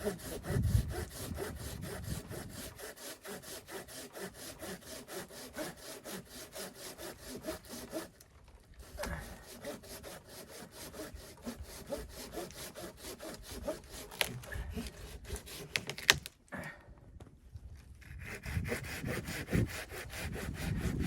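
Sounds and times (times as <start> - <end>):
hand saw cutting wood: 0.0 - 16.3, 18.0 - 21.0.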